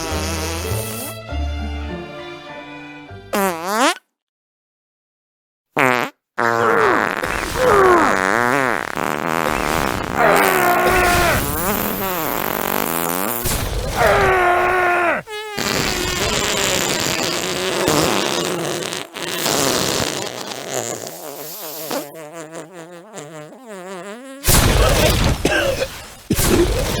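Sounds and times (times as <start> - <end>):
comic fart sounds: 0.0 - 1.4, 3.3 - 4.0, 5.8 - 27.0.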